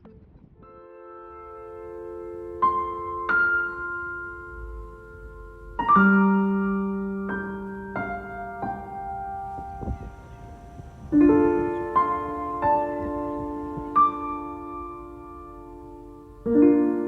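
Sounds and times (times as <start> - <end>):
slow piano music: 0.6 - 17.0.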